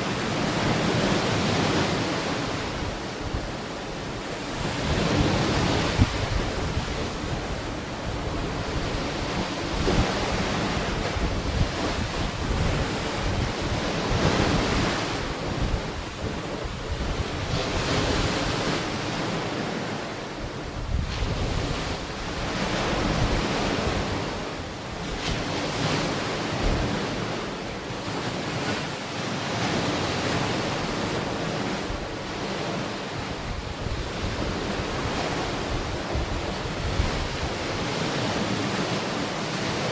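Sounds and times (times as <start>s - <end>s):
sea waves washing onto shore: 0.0s - 39.9s
wind buffeting microphone: 0.5s - 19.8s, 20.4s - 28.8s, 29.7s - 39.9s.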